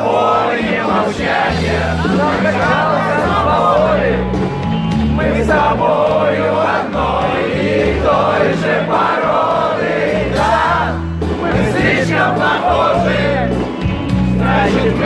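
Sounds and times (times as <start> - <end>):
bass: 0.0 - 15.0
steady drum beat: 0.0 - 15.0
sung vocals: 0.0 - 15.0
live rock band playing: 0.4 - 15.0.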